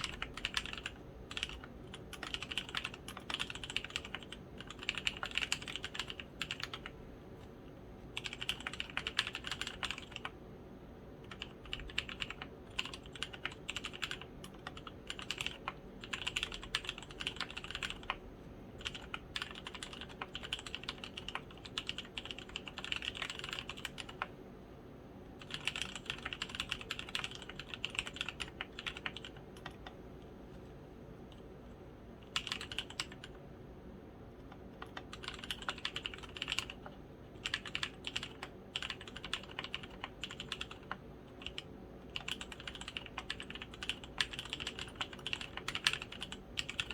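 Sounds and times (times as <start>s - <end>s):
mechanical keyboard typing: 0.0s - 7.0s, 8.1s - 10.4s, 11.2s - 18.2s, 18.8s - 24.3s, 25.4s - 30.0s, 32.2s - 33.4s, 34.4s - 46.9s.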